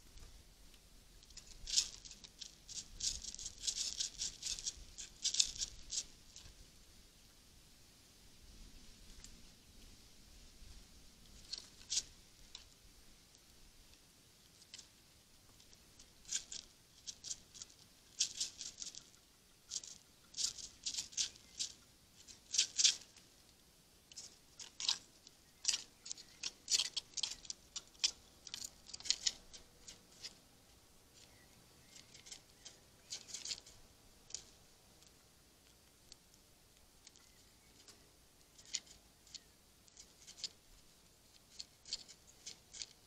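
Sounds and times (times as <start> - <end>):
squirrel scratching wood: 1.1 - 6.7, 11.2 - 43.0.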